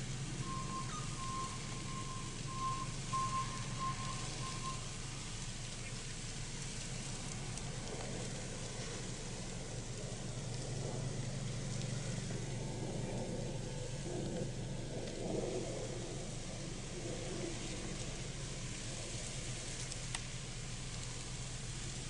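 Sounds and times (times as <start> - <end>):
burning brush crackling: 0.0 - 22.0
truck engine droning: 0.0 - 22.0.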